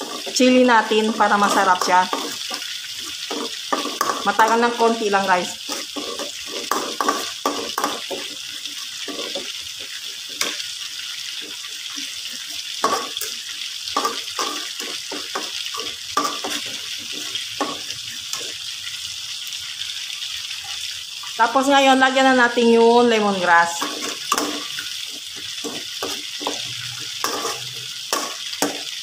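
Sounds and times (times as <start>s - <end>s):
metal spatula scraping pan: 0.0s - 18.7s, 23.4s - 29.0s
chili paste sizzling in oil: 0.0s - 29.0s.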